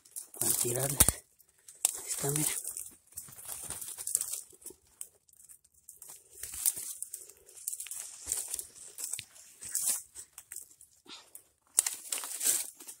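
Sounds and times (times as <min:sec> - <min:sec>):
twigs snapping: 0:00.0 - 0:10.8, 0:11.4 - 0:13.0
dry leaves and twigs rustling: 0:00.0 - 0:13.0.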